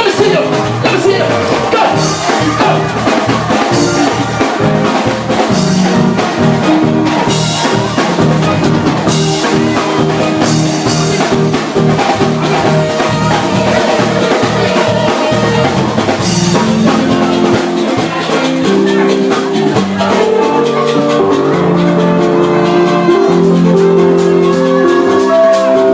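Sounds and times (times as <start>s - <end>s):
band playing up-tempo instrumental: 0.0s - 25.9s.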